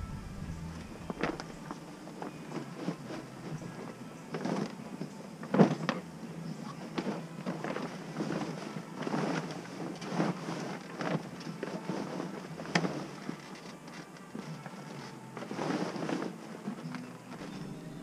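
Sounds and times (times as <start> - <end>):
rustling: 0.0 - 18.0.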